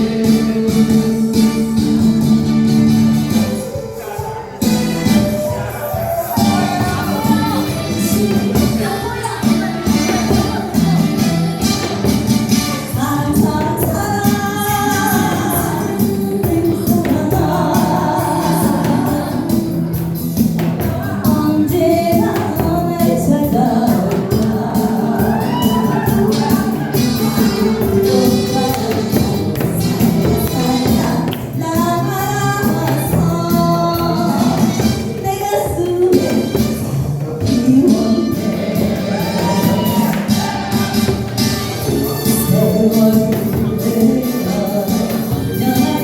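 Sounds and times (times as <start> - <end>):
music with steady beat: 0.0 - 46.0
person singing: 3.3 - 12.2, 12.8 - 46.0.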